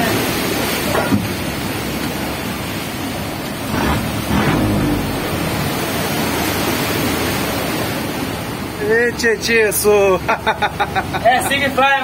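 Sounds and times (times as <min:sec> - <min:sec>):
surf rushing around boat hull: 0:00.0 - 0:12.0.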